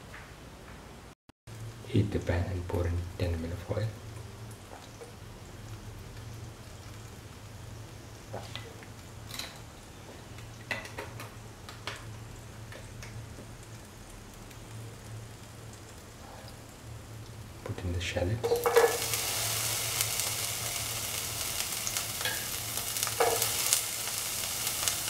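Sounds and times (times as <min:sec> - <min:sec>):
oil sizzling in a pan: 0:01.5 - 0:25.0.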